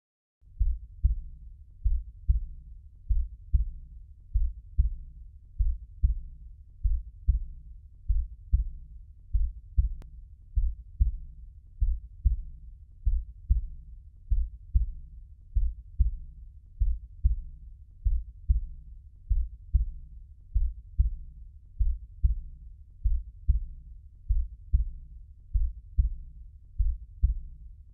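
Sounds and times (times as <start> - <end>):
heartbeat thumps: 0.6 - 15.0, 15.6 - 27.6.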